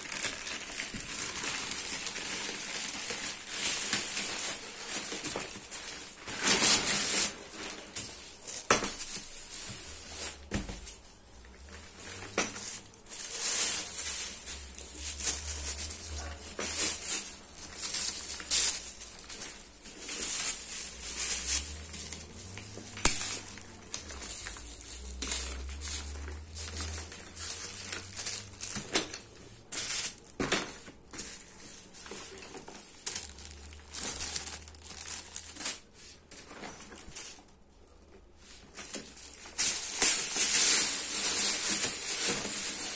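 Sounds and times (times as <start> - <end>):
plastic wrapping crinkling: 0.0 - 42.9.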